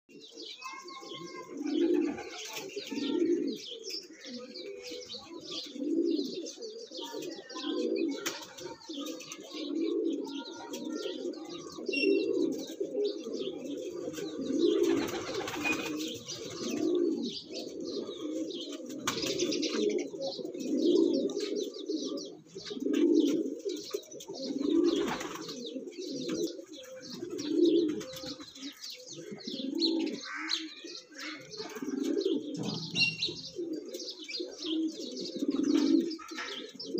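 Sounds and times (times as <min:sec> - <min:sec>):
pigeon cooing: 0:00.1 - 0:36.9.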